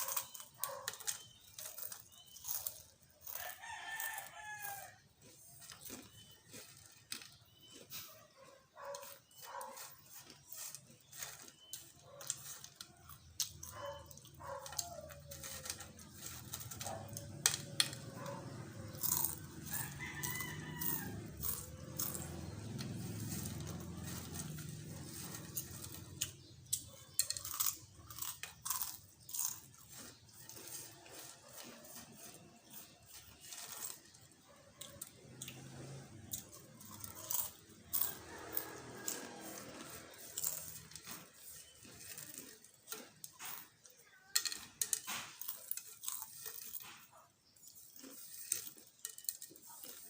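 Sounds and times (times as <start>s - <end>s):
chips being bitten and chewed: 0.0s - 50.0s.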